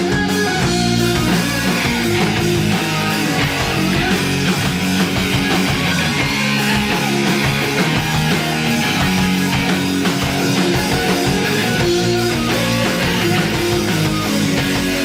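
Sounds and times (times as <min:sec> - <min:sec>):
bass guitar: 0:00.0 - 0:15.0
electric guitars: 0:00.0 - 0:15.0
steady drum beat: 0:00.0 - 0:15.0.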